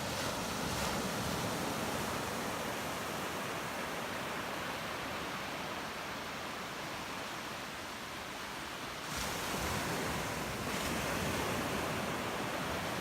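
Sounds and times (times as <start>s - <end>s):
ocean surf: 0.0s - 13.0s.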